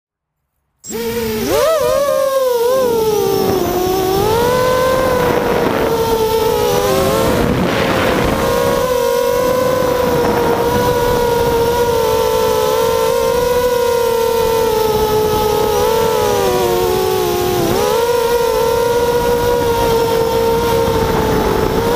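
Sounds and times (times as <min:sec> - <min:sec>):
drone motors whining: 0:00.8 - 0:21.9
wind on microphone: 0:00.9 - 0:21.9.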